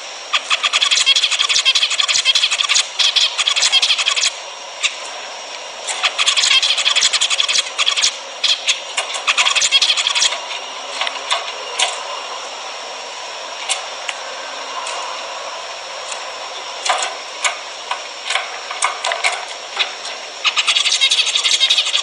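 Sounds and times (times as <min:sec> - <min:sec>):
finches calling: 0:00.3 - 0:22.0.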